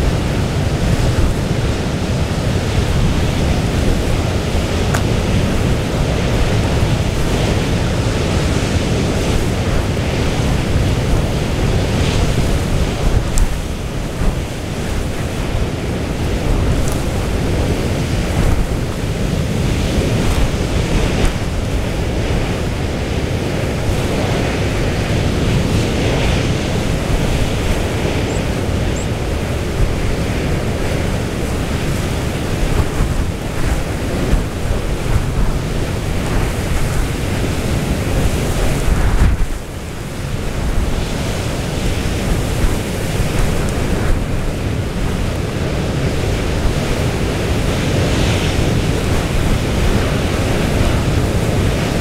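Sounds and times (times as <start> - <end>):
rough sea breaking: 0.0 - 52.0
wind buffeting microphone: 0.0 - 52.0.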